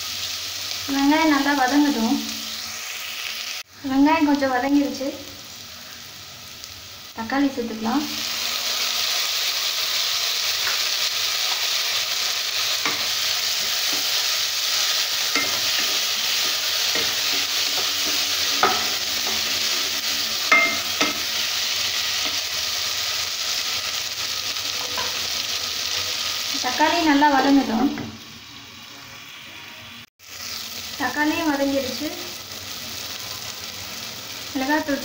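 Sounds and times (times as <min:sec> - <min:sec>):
onions and tomatoes sizzling in oil: 0:00.0 - 0:35.0.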